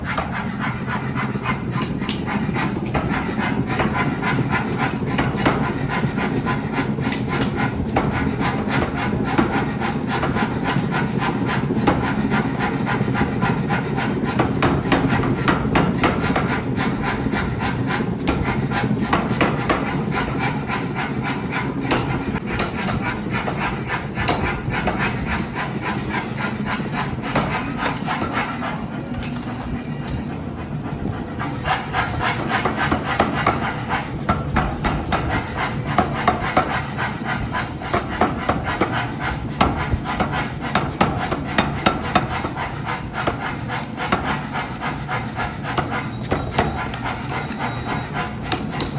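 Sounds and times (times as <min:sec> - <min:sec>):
steady scraping rasp: 0:00.0 - 0:48.9.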